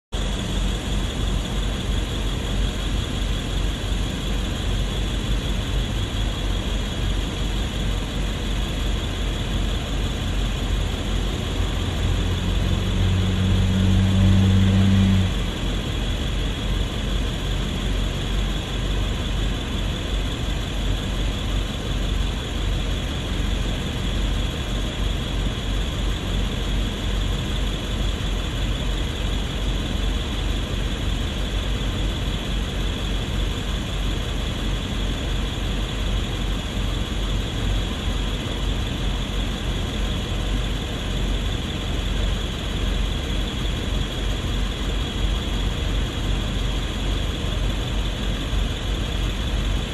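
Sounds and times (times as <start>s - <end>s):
deep engine hum: 0.1s - 49.9s
traffic noise: 0.2s - 49.9s.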